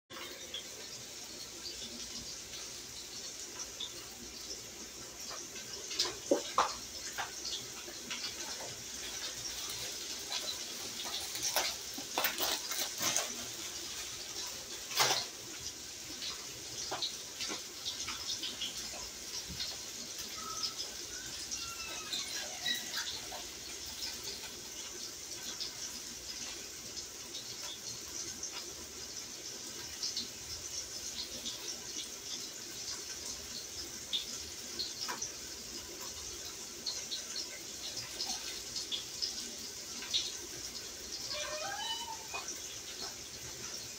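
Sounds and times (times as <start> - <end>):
water running from a tap: 0.1 - 43.9.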